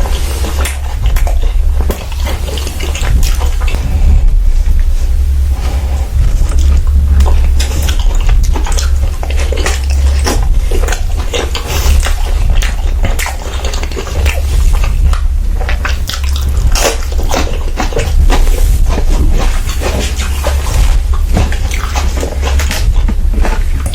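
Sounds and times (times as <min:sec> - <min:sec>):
person chewing food: 0:00.0 - 0:23.9
steady low hum: 0:00.0 - 0:23.9.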